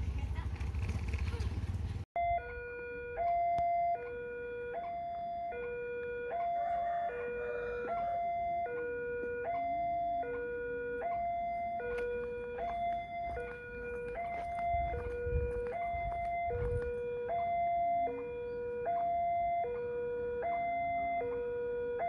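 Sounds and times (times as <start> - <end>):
two-tone crossing alarm chime: 2.2 - 22.0.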